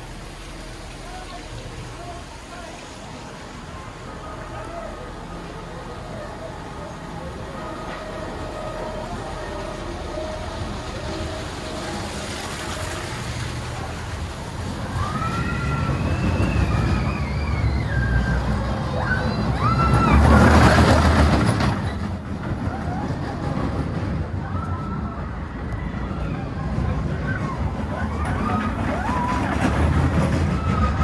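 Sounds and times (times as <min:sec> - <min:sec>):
roller coaster rumbling on track: 0:00.0 - 0:31.0.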